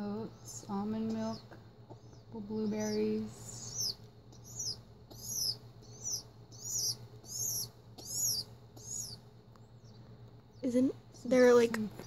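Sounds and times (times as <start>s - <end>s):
baby pigeon squeaking: 0.4s - 12.0s.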